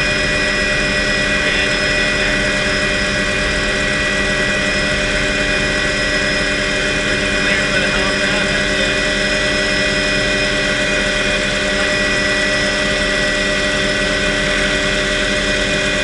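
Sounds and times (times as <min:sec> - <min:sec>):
helicopter turbine whine and hum: 0:00.0 - 0:16.0.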